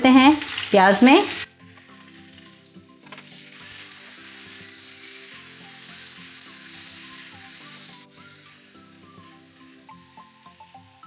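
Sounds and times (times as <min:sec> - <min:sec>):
chicken sizzling in frying pan: 0:00.0 - 0:11.0
spatula stirring in pan: 0:00.4 - 0:11.0.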